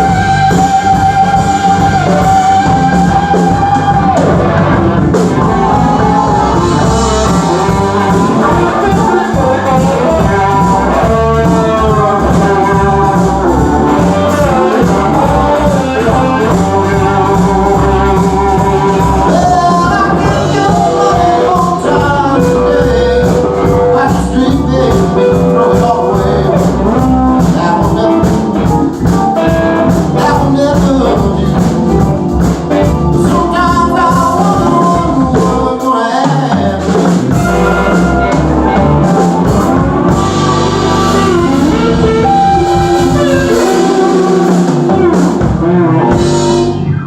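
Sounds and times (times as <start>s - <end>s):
lead singer singing: 0.0s - 47.0s
live band playing blues rock: 0.0s - 47.0s.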